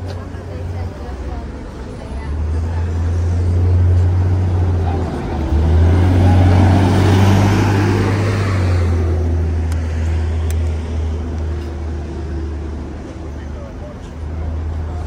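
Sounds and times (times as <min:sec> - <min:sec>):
bus engine rumbling: 0:00.0 - 0:15.0
street traffic drone: 0:00.0 - 0:15.0.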